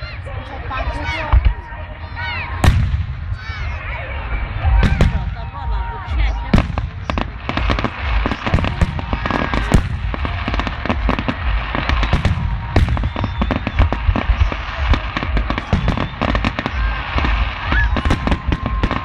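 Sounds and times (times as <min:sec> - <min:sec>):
fireworks bangs: 0:00.0 - 0:19.0
low rumble: 0:00.0 - 0:19.0.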